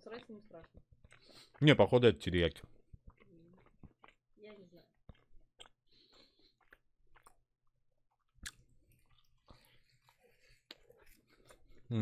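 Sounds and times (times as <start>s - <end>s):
chewing with wet mouth smacks: 0.0s - 11.9s.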